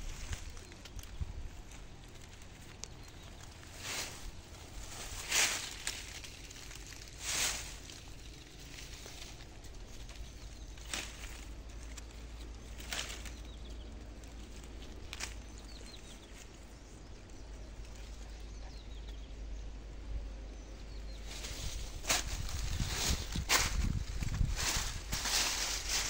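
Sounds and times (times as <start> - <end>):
footsteps in dry leaves: 0.0 - 17.1, 21.1 - 26.0
rustling through undergrowth: 0.0 - 19.7, 20.4 - 26.0.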